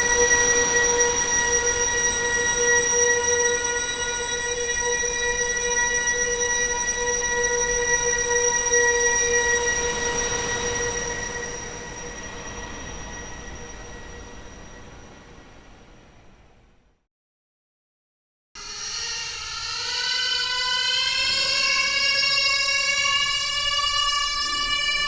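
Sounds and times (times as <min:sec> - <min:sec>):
piercing drone: 0:00.0 - 0:15.2, 0:18.6 - 0:25.0.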